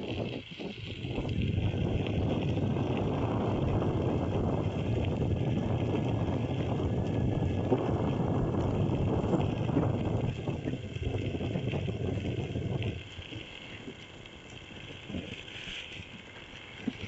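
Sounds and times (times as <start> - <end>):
wind buffeting microphone: 0.0 - 14.0
skateboard wheels rumbling: 0.0 - 17.0.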